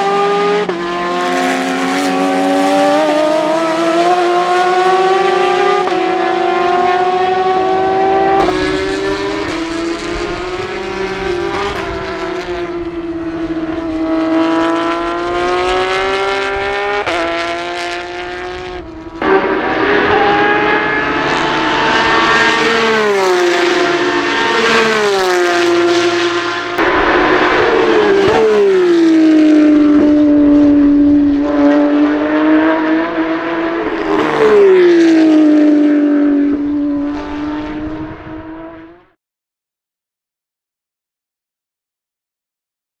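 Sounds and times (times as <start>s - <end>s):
race car engine revving: 0.0s - 39.2s.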